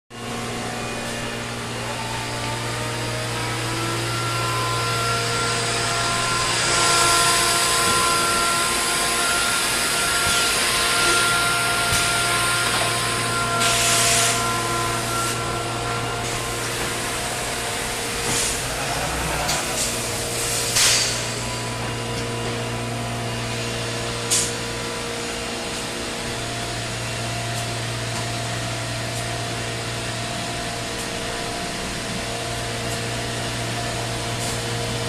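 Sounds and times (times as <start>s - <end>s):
router machine whine: 0.2s - 35.0s.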